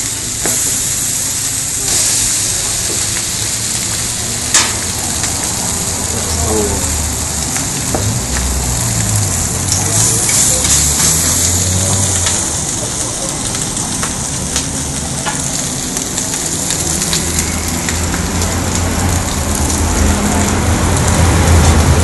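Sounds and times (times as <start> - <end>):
food sizzling on a griddle: 0.0 - 22.0.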